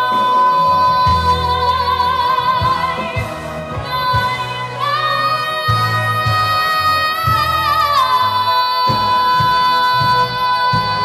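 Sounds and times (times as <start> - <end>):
low instrumental accompaniment: 0.0 - 11.0.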